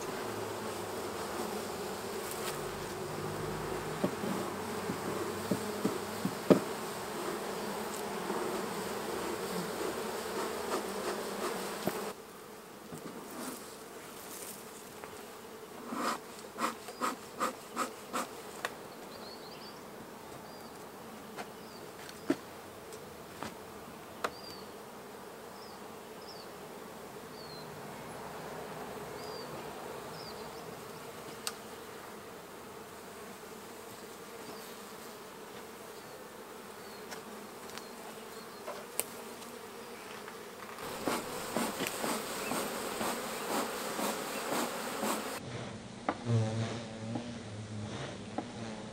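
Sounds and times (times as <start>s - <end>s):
honey bees buzzing: 0.0s - 45.4s.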